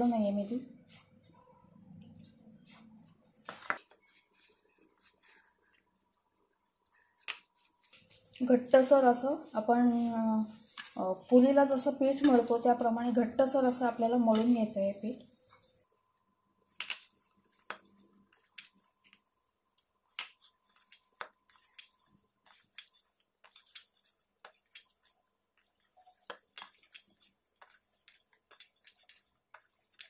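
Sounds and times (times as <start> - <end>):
hands kneading dough in a bowl: 2.4 - 30.0.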